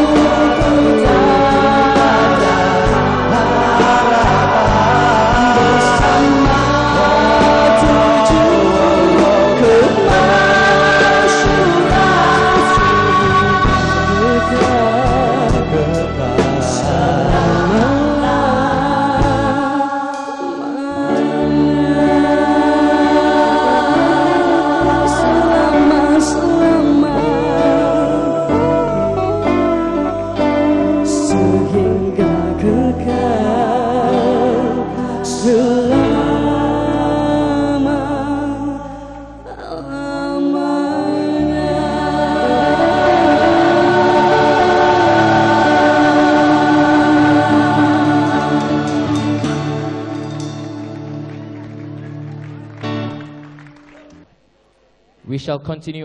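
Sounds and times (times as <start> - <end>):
bass guitar: 0.0 - 19.8, 21.0 - 54.2
lead singers holding long notes: 0.0 - 52.0
keyboard chords: 0.0 - 53.8
electric guitars: 0.0 - 54.2
live music: 0.0 - 55.4.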